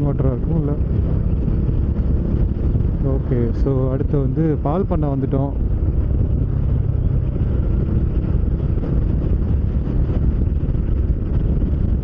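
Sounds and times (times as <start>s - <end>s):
motorcycle engine rumble: 0.0s - 12.0s
wind rush on microphone: 0.0s - 12.0s.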